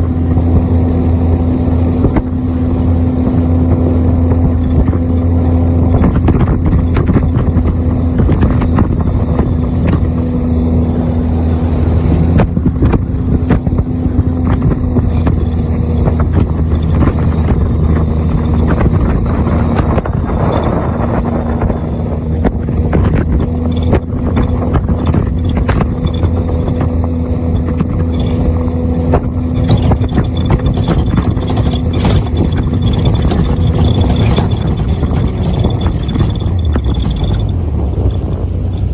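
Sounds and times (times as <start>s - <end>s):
jet boat engine: 0.0s - 38.9s
wind and water rushing: 0.0s - 38.9s.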